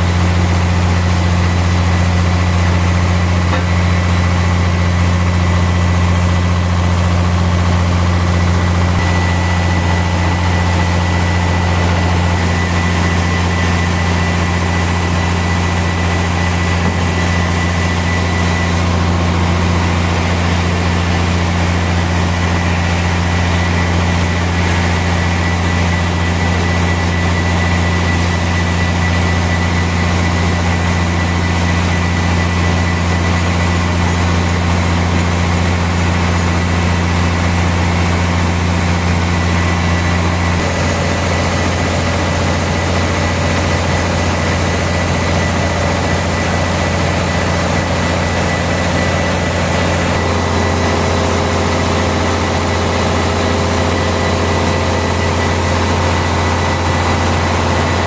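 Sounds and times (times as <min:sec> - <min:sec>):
sawmill machinery deep hum: 0:00.0 - 0:58.0
thin high whine: 0:08.3 - 0:58.0.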